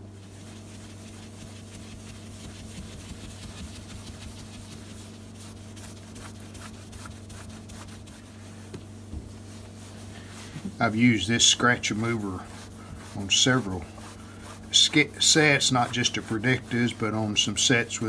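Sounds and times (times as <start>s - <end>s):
cloth buffing a screen: 0.0s - 18.0s
steady low hum: 0.0s - 18.0s.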